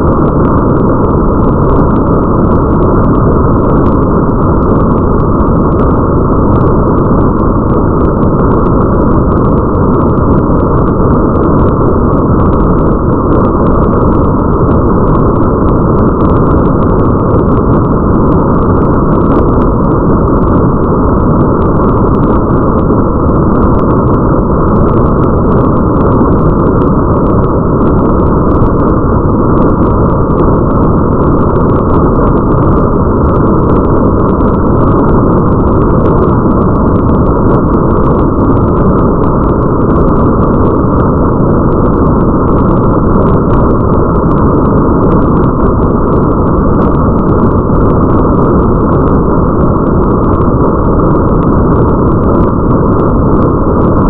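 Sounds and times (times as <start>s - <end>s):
faint drop-like ticks: 0.0s - 54.0s
muffled rain: 0.0s - 54.0s.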